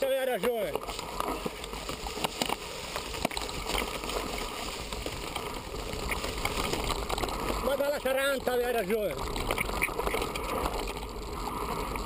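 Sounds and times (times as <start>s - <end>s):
bike clicking and rattling: 0.0s - 12.0s
tyre and wind noise rumbling: 0.5s - 12.0s.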